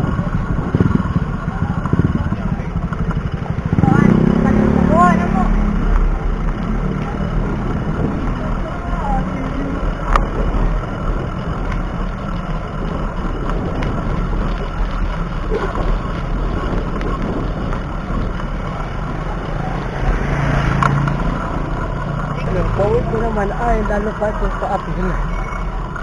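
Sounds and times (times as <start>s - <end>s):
wind rumble on microphone: 0.0s - 24.0s
road noise: 0.0s - 26.0s.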